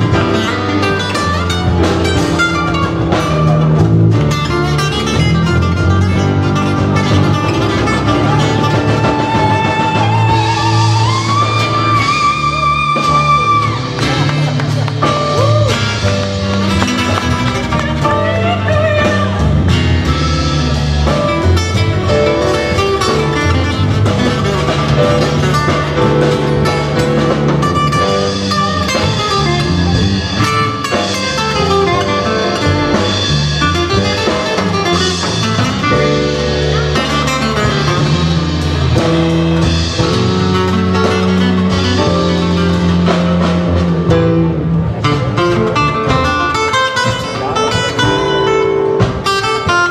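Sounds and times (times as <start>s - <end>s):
acoustic guitar: 0.0s - 49.9s
drum kit beat: 0.0s - 49.9s
electric bass: 0.0s - 49.9s.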